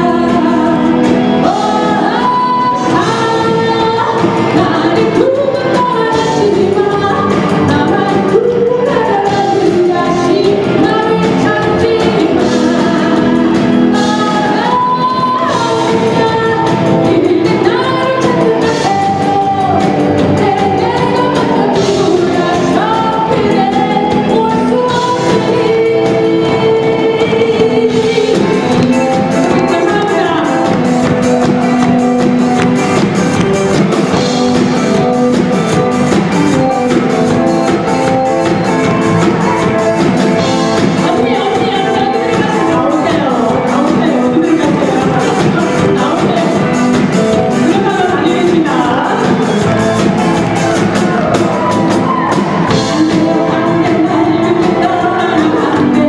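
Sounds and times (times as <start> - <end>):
live pop band playing: 0.0 - 56.0
woman singing lead: 0.0 - 56.0.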